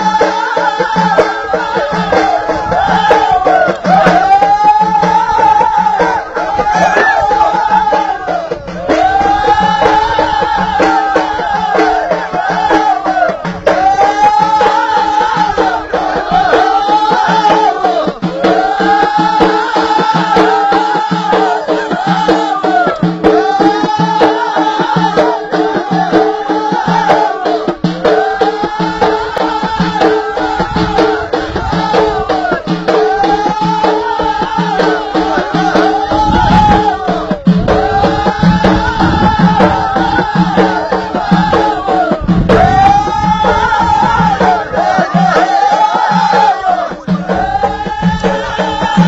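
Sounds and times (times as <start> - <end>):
frame drums beating: 0.0 - 49.0
voices singing a chanted melody: 0.0 - 49.0.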